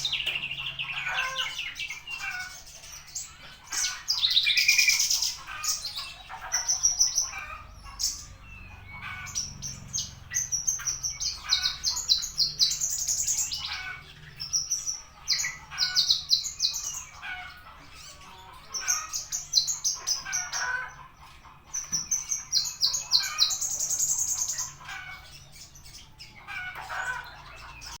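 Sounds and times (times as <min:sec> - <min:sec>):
lark singing rapid high chirps: 0:00.0 - 0:20.9, 0:21.6 - 0:26.6.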